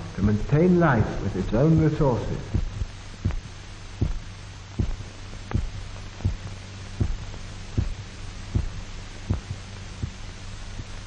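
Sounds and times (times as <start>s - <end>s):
low steady hum: 0.0s - 11.0s
heartbeat thumping: 0.1s - 11.0s.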